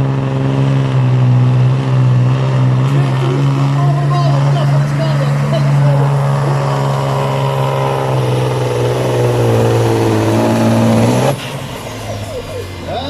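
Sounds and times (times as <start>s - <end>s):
diesel engine running flat out: 0.0s - 13.0s.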